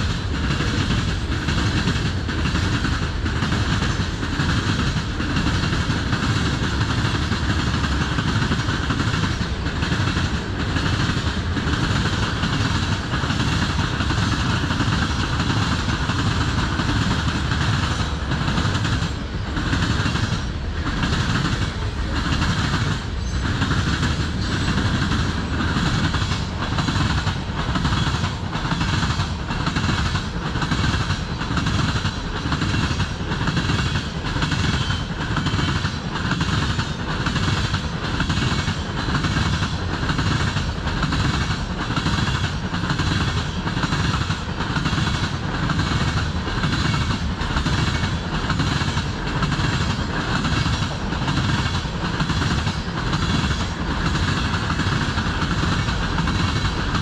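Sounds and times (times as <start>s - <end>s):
freight train wheels rumbling on rail: 0.0s - 57.0s
wheels clickety-clack over track joints: 0.0s - 57.0s.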